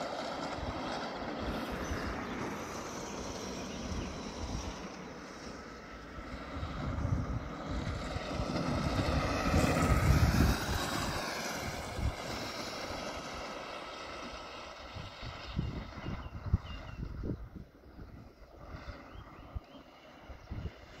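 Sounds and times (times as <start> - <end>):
electric kart whining past: 0.0 - 21.0.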